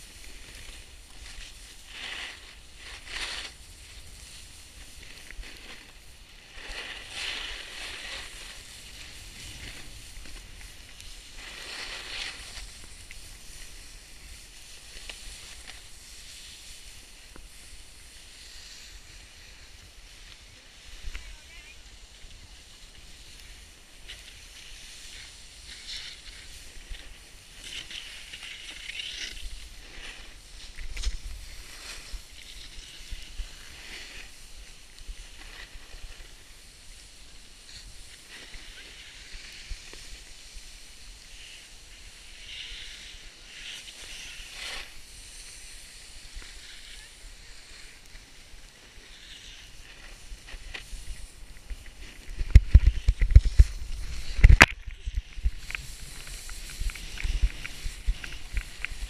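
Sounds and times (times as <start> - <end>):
snowboard scraping over snow: 0.0 - 59.0.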